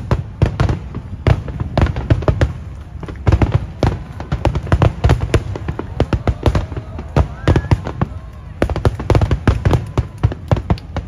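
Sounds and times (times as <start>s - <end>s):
fireworks deep booms: 0.0s - 11.0s
fireworks sharp bangs: 0.0s - 11.0s.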